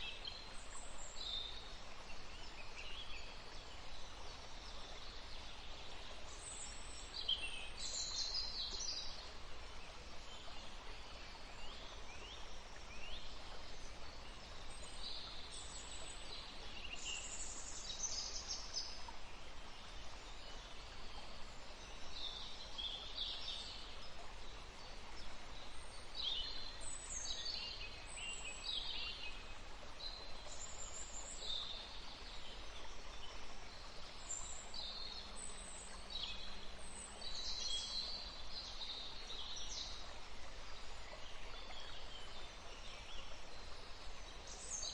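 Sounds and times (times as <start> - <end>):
songbirds chirping: 0.0 - 44.9
steady background hiss: 0.0 - 44.9.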